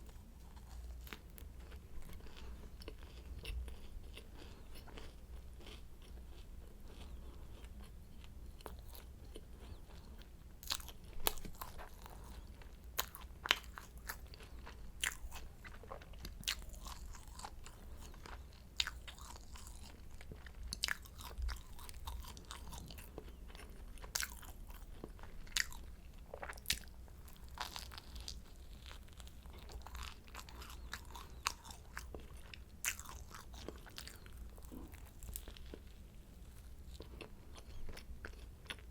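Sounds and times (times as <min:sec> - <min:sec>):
chewing crisp pastry: 0:00.0 - 0:38.9.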